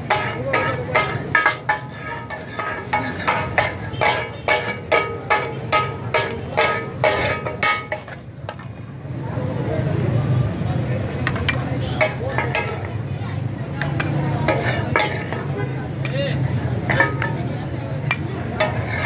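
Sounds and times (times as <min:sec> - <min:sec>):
metal spatulas striking a griddle: 0:00.0 - 0:08.7, 0:11.2 - 0:13.1, 0:13.7 - 0:19.0.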